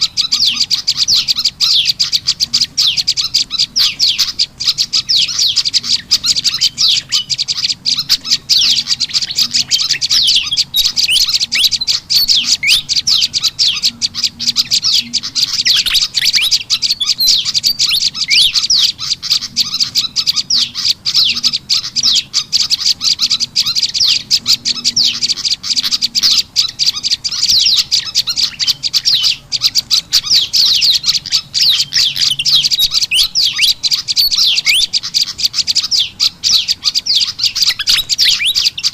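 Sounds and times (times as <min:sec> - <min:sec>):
high sweeping bird chirps: 0:00.0 - 0:38.9.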